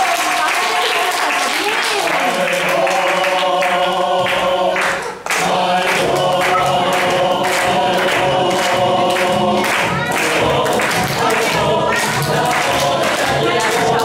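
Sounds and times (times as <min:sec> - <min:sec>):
voices singing together: 0:00.3 - 0:14.0.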